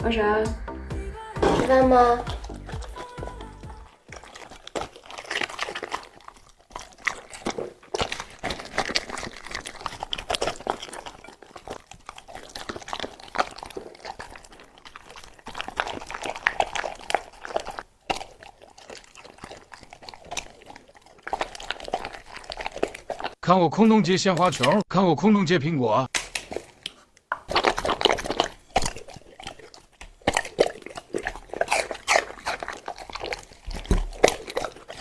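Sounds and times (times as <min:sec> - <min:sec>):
dog chewing and crunching: 0:01.4 - 0:24.9, 0:26.2 - 0:35.0.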